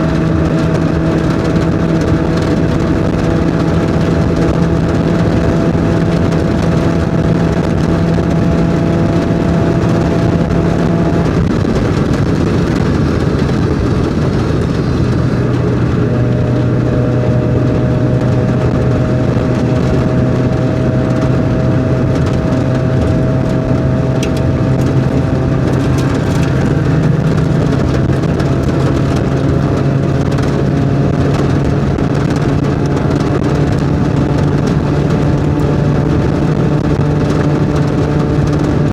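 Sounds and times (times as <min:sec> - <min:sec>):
car engine running hard: 0:00.0 - 0:38.9
road and wind noise: 0:00.0 - 0:38.9.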